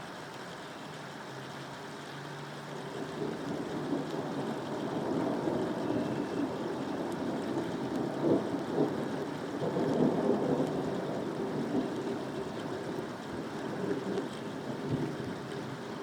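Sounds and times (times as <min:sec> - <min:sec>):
steady rain: 0:00.0 - 0:16.0
low rumble of thunder: 0:02.8 - 0:16.0.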